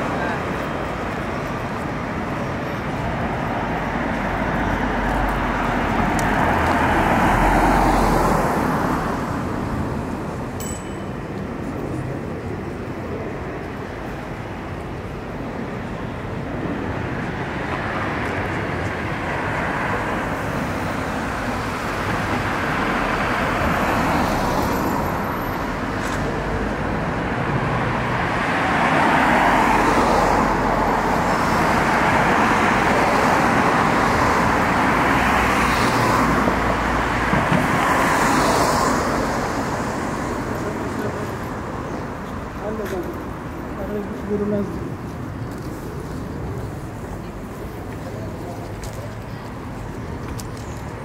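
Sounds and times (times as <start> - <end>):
hum of cars: 0.0 - 51.0
vehicles passing: 0.0 - 51.0.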